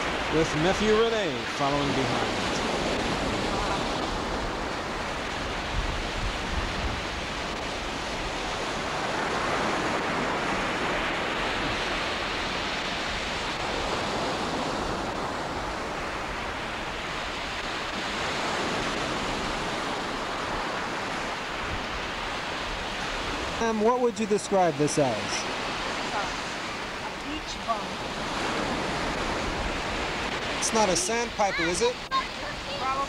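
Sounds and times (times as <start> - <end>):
ocean surf breaking on shore: 0.0 - 33.0.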